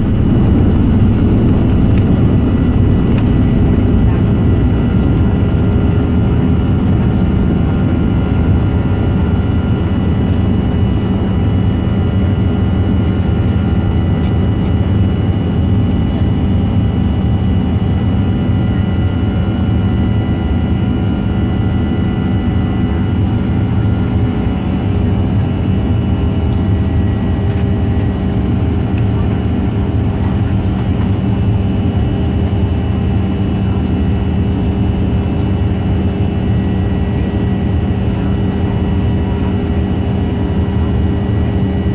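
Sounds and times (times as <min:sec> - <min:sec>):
jet engines in passenger cabin: 0:00.0 - 0:41.9.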